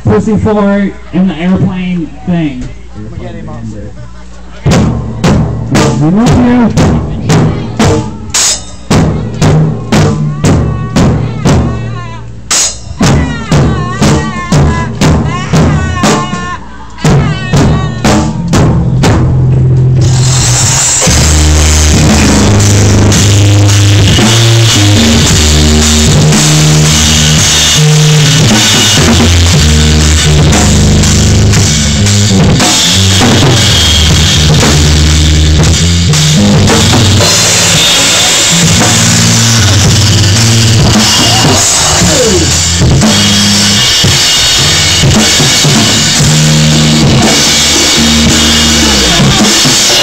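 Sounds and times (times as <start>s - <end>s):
drums and cymbals: 4.4s - 50.0s
live rock band playing: 4.4s - 50.0s.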